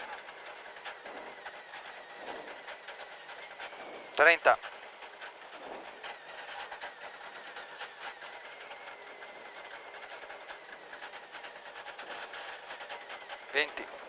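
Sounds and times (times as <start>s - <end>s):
car engine idling: 0.0s - 14.0s
rapid irregular ticking: 0.0s - 14.0s.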